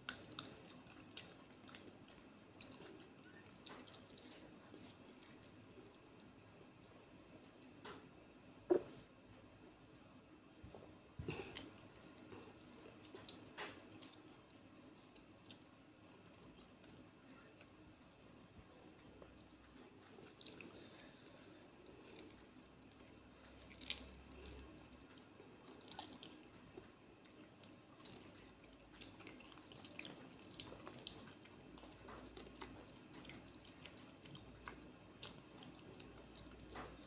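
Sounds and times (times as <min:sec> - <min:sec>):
person chewing: 0:00.0 - 0:06.1, 0:11.2 - 0:37.0.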